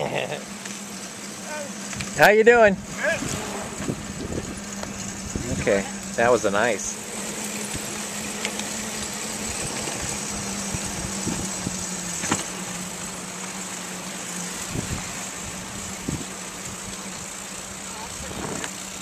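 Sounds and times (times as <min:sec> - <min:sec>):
constant low hum: 0:00.0 - 0:19.0
wind: 0:00.0 - 0:19.0.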